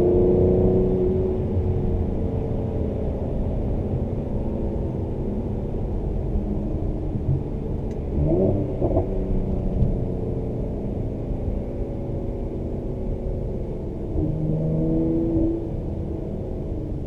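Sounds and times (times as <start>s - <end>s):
car engine rumble in cabin: 0.0s - 17.0s.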